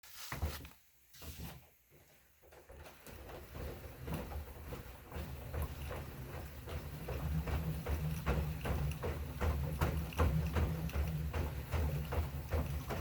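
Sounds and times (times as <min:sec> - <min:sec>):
treadmill creaking and knocking: 0:00.2 - 0:13.0
treadmill belt rumble: 0:01.8 - 0:13.0.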